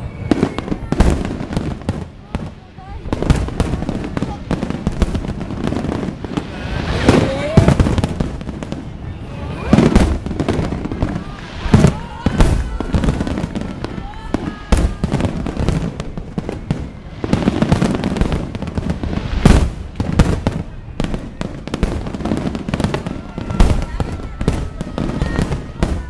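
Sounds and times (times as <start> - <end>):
people talking: 0.0 - 18.6, 20.4 - 26.0
firework rumbling and crackling: 0.0 - 26.0
firework shells booming: 0.0 - 26.0.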